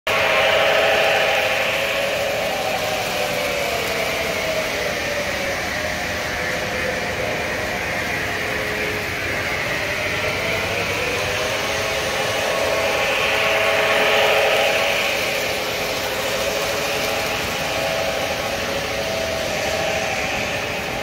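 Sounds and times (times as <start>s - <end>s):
model diesel engine sound hum: 0.1s - 21.0s
model train wheels on rails: 0.1s - 21.0s.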